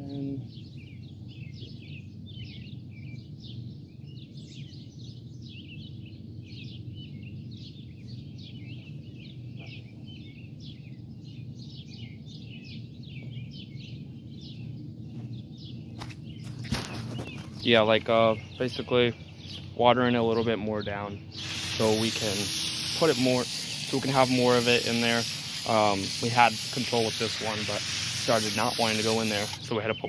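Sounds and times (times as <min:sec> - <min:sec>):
birds chirping: 0:00.0 - 0:30.0
low background hum: 0:00.0 - 0:30.0.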